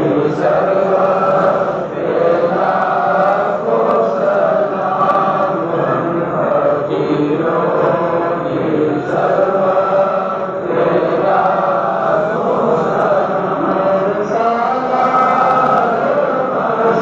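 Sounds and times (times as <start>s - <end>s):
group chanting: 0.0s - 17.0s.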